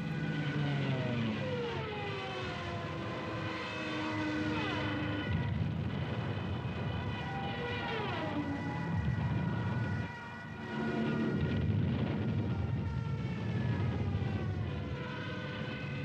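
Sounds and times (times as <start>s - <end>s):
propeller aircraft flying past: 0.0s - 16.0s.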